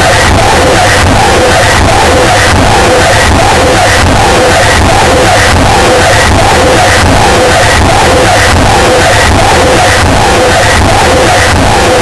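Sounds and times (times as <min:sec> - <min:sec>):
harsh noise music: 0:00.0 - 0:12.0.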